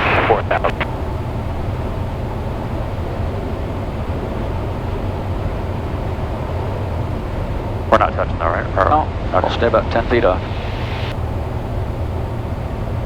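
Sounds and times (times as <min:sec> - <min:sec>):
airflow over airframe: 0:00.0 - 0:13.0
small plane engine drone: 0:00.0 - 0:13.0.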